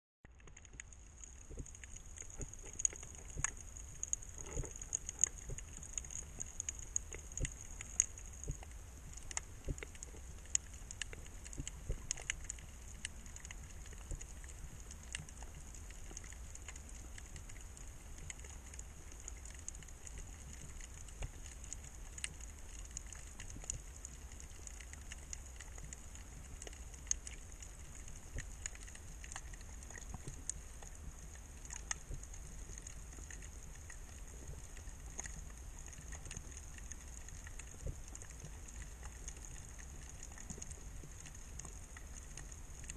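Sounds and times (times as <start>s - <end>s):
small clicks and crackles: 0.2s - 42.9s
muffled underwater rumble: 0.3s - 42.9s.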